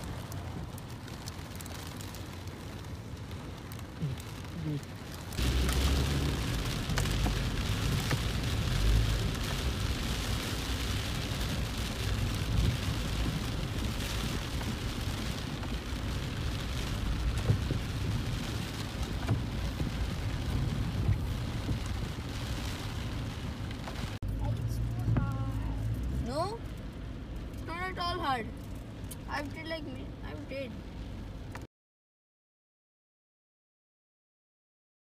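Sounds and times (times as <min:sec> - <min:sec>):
car rumbling in traffic: 0:00.0 - 0:31.7
rain on car roof: 0:00.0 - 0:31.7.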